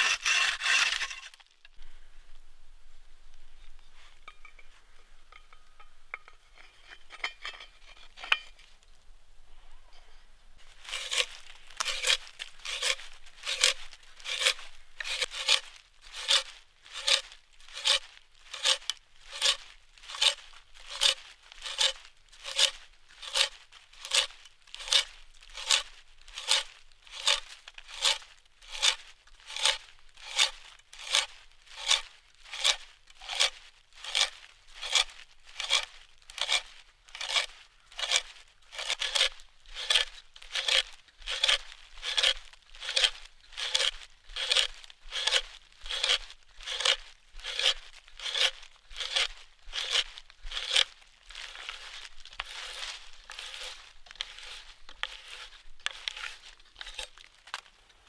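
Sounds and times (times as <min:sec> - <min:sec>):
hand auger boring into log: 0:00.0 - 0:01.5, 0:10.6 - 0:57.7.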